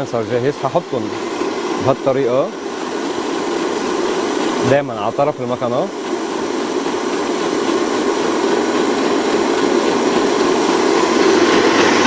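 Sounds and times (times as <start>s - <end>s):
stand mixer whirring: 0.0s - 12.0s.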